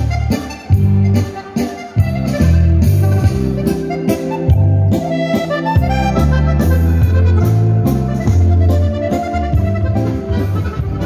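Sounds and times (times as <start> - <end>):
accordion playing a dance tune: 0.0 - 11.0
bass line: 0.0 - 11.0.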